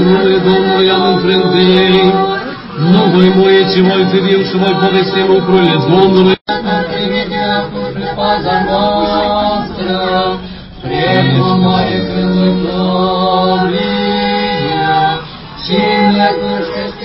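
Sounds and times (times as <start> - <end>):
group chanting: 0.0 - 17.0.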